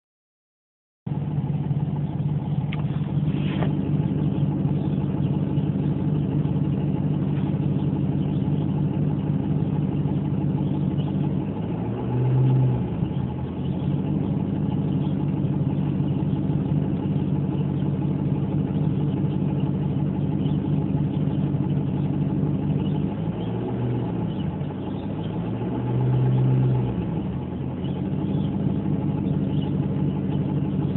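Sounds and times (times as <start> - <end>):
car engine idling and revving: 1.1 - 30.9.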